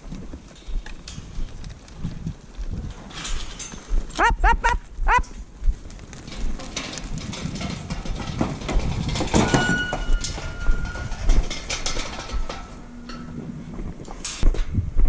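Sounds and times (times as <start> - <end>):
steel panels and gates rattling: 0.0 - 4.4, 5.2 - 14.8.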